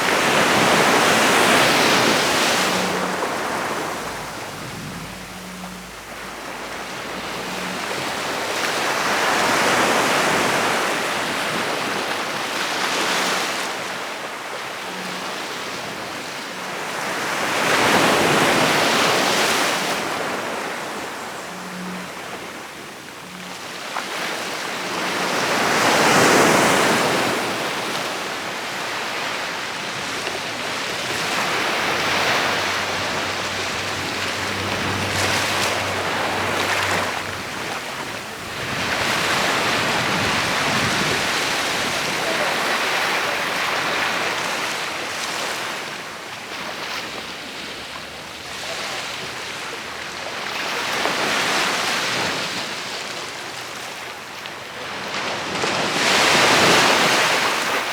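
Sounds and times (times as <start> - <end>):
sea waves breaking on beach: 0.0 - 57.9.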